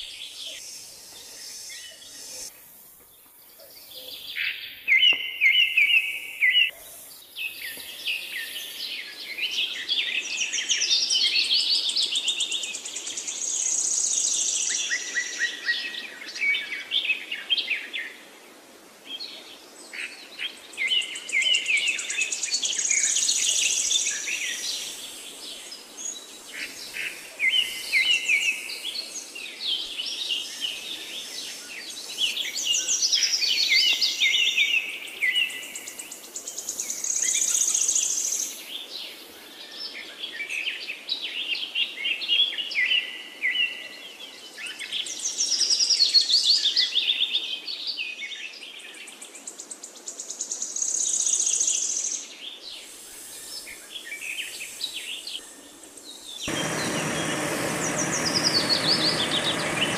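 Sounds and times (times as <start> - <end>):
songbirds chirping and trilling: 0.0 - 18.2, 19.1 - 59.9.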